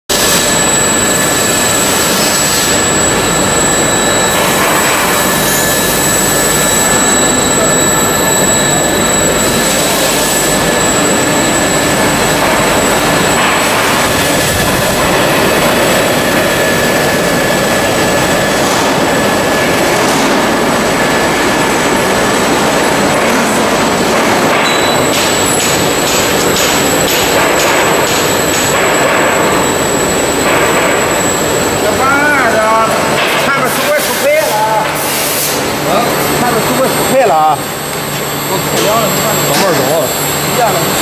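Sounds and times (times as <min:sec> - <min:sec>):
extrusion machine whirring: 0:00.1 - 0:41.0
thin high whine: 0:00.1 - 0:41.0.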